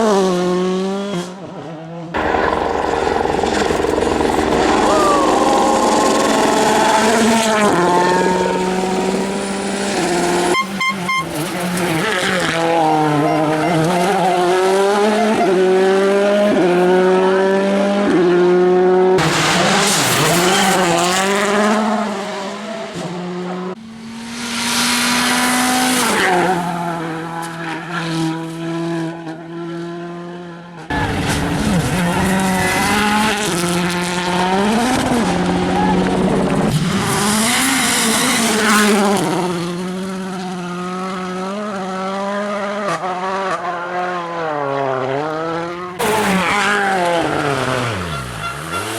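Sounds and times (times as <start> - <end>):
rally car engine at full throttle: 0.0 - 48.9.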